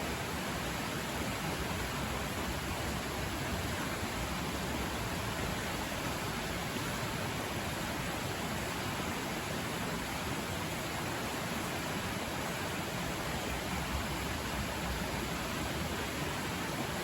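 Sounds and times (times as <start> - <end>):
river flowing: 0.0 - 17.0.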